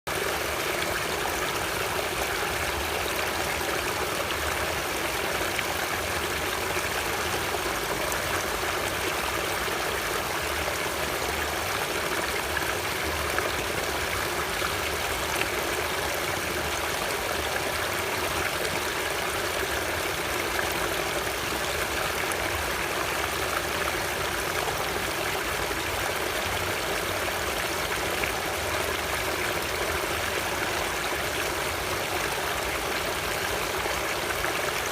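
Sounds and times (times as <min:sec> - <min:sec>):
flowing water: 0:00.1 - 0:34.9.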